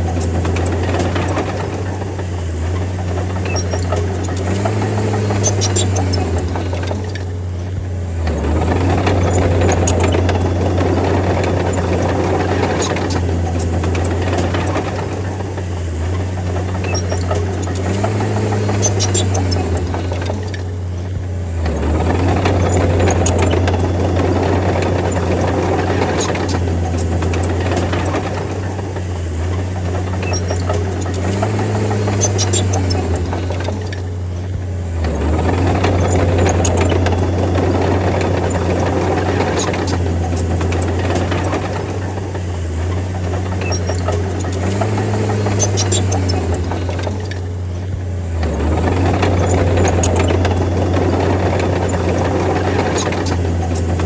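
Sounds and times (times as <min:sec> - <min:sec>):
bulldozer diesel engine under load: 0:00.0 - 0:54.0
sharp clanks and ticks: 0:00.0 - 0:54.0.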